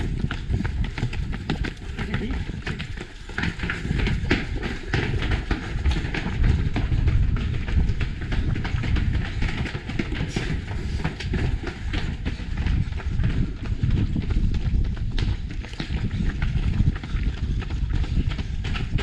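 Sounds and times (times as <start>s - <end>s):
running footsteps on stone: 0.0s - 19.0s
wind rumble on microphone: 0.0s - 19.0s.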